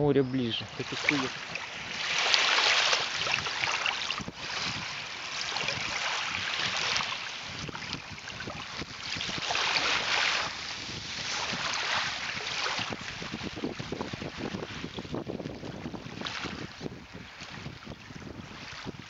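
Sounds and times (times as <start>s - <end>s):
small waves lapping on pebbles: 0.5s - 19.0s.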